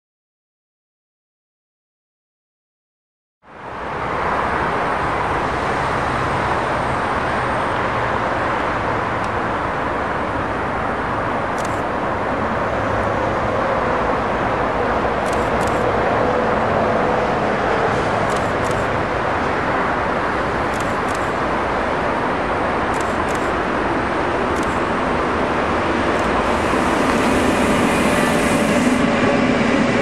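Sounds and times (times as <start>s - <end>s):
train wheels rushing on rails: 3.8s - 30.0s.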